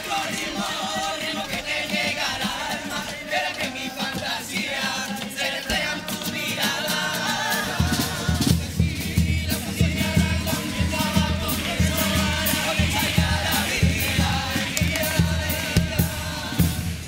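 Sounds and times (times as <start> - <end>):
choir singing in chorus: 0.0 - 17.0
drums: 0.0 - 17.0
guitar accompaniment: 2.7 - 17.0.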